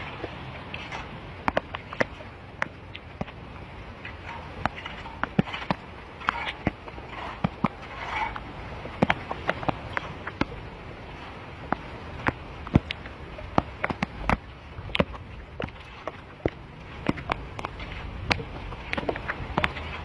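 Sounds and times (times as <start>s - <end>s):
steady rushing hiss: 0.0s - 20.0s
sharp taps and knocks: 0.2s - 3.4s, 4.0s - 10.6s, 11.6s - 20.0s.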